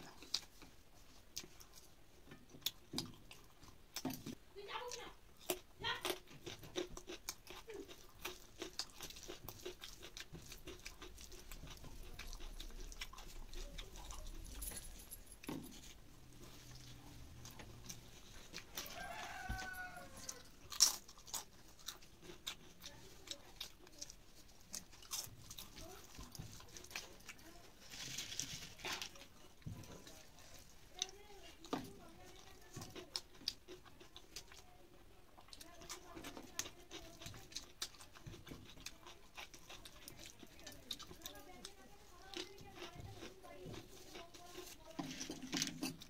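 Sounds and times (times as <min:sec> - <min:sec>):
wet chewing and mouth clicks: 0:00.0 - 0:46.0.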